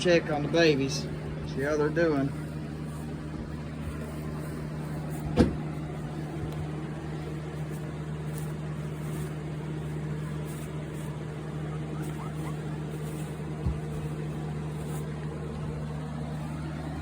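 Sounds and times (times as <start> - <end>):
electric fan humming: 0.0 - 17.0.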